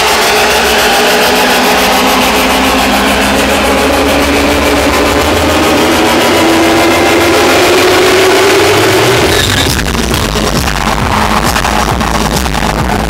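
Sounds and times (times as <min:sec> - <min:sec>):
electro dance music: 0:00.0 - 0:13.0.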